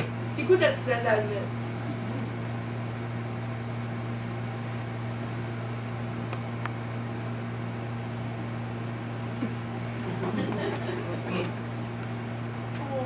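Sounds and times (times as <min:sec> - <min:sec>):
low room hum and hiss: 0:00.0 - 0:13.0.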